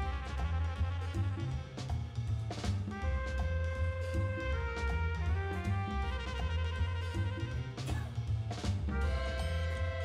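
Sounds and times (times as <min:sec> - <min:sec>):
jazzy brass and drum music: 0:00.0 - 0:10.0.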